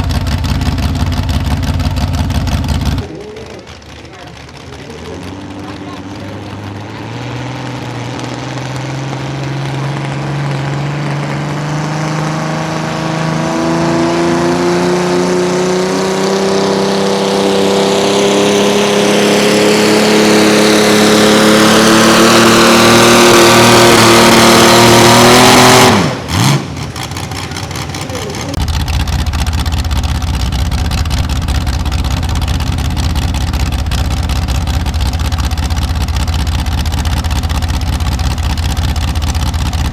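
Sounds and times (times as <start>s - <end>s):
low steady engine sound: 0.0s - 39.9s
tractor engine at full throttle: 0.0s - 39.9s.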